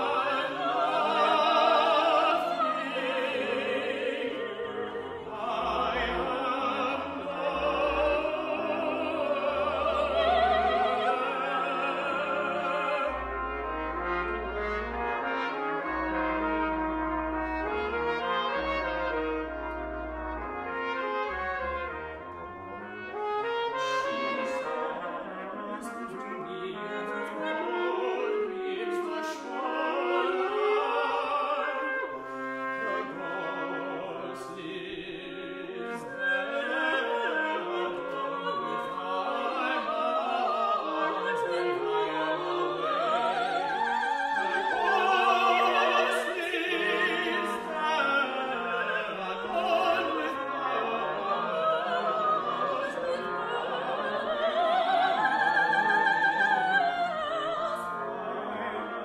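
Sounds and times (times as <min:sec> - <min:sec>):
operatic singers with vibrato: 0:00.0 - 0:21.6, 0:23.1 - 0:59.0
brass quintet playing: 0:00.0 - 0:59.0.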